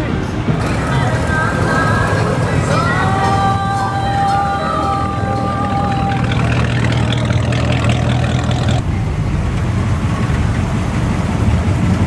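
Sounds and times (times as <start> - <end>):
car engines rumbling at low speed: 0.0 - 12.0.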